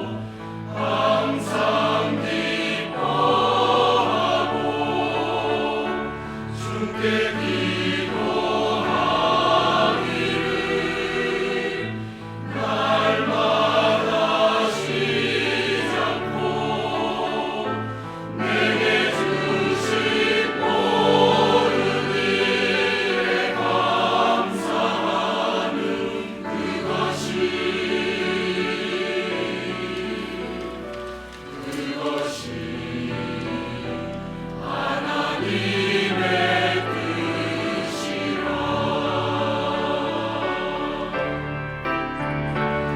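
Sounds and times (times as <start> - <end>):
church choir singing: 0.0 - 42.9.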